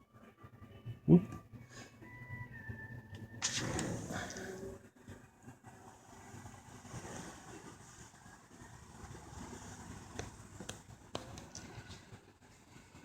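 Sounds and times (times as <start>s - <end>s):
faint outdoor rumble: 0.0s - 13.0s.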